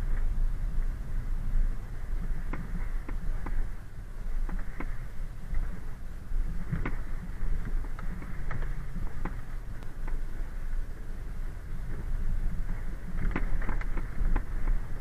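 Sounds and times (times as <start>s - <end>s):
car rumbling on rough road: 0.0s - 15.0s.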